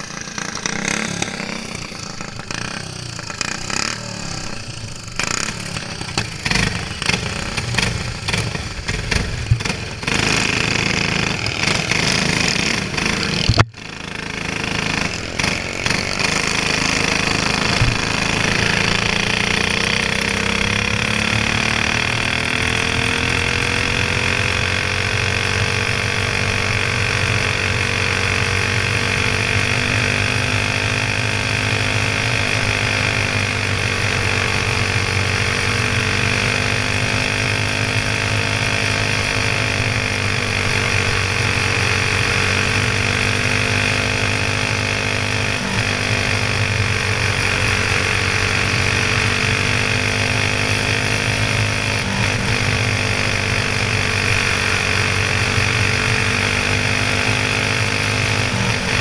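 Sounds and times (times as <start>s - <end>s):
go-kart engine running at speed: 0.0s - 59.0s.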